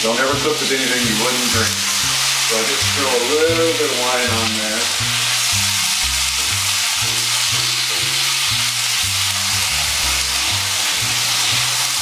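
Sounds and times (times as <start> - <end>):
beans sizzling in a wok: 0.0 - 12.0.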